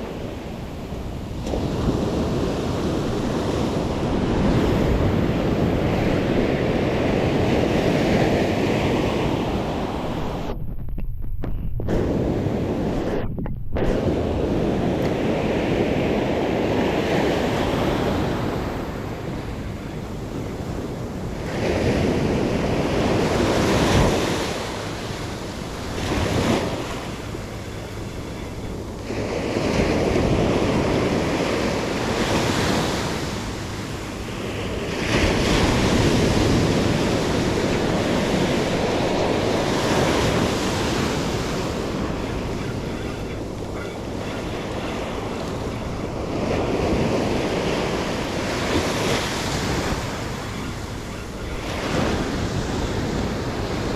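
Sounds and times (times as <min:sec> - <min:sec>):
sea waves breaking on beach: 0:00.0 - 0:10.6, 0:13.8 - 0:53.9
wind buffeting microphone: 0:00.0 - 0:53.9.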